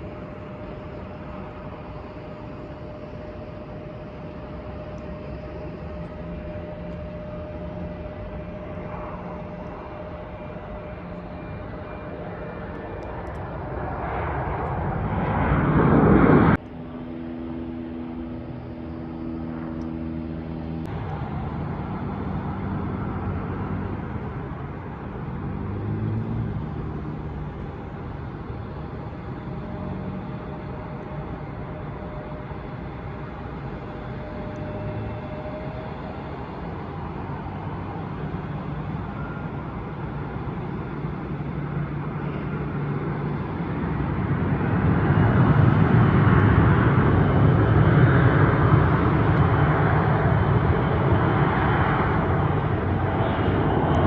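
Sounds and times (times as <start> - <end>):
jet aircraft passing: 0.0 - 54.0
low steady engine rumble: 0.0 - 54.0.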